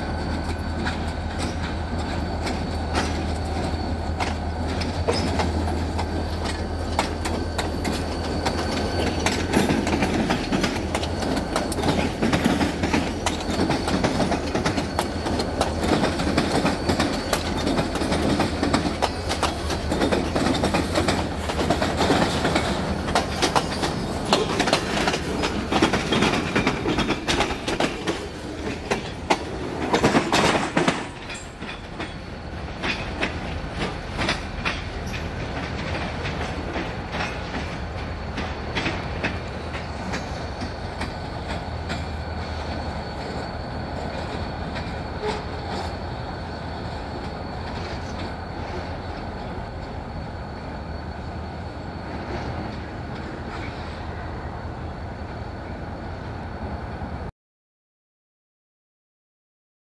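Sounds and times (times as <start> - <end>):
train wheels clicking over rail joints: 0.0 - 54.2.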